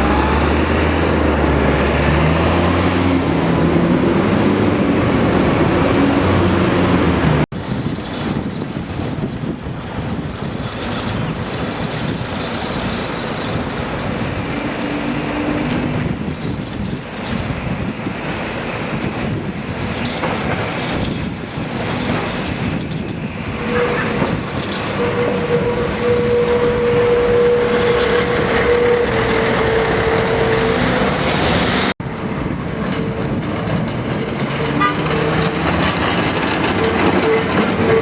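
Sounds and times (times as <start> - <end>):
tram rumbling on rails: 0.0 - 38.0
wheels clicking on track: 0.0 - 38.0.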